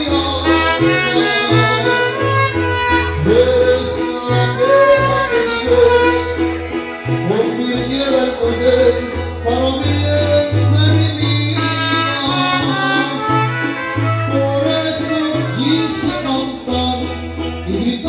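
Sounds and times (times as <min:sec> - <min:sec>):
trumpet: 0:00.0 - 0:10.4, 0:11.4 - 0:17.0
deep bass guitar notes: 0:00.0 - 0:18.0
guitar: 0:00.0 - 0:18.0.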